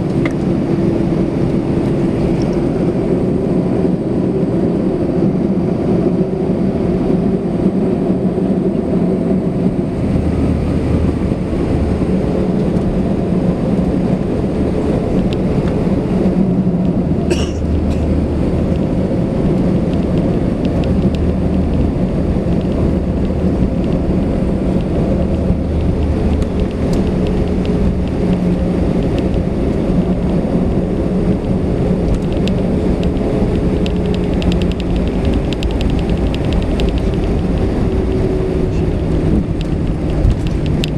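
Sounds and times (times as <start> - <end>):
aircraft cabin rumble and hum: 0.0 - 40.9.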